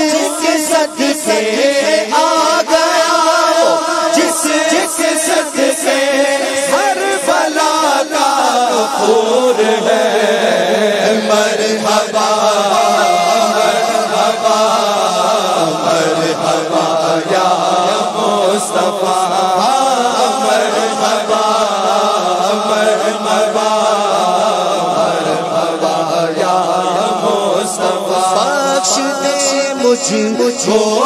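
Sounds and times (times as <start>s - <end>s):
men chanting together: 0.0s - 31.0s.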